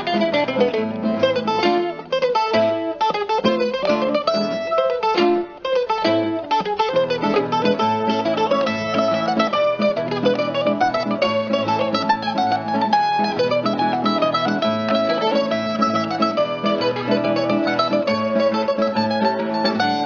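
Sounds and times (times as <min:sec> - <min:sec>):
plucked string music: 0:00.0 - 0:20.0.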